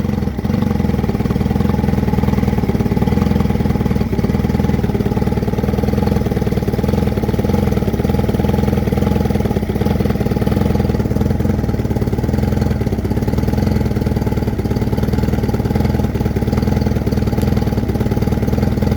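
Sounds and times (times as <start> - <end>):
outboard motor running: 0.0 - 18.9.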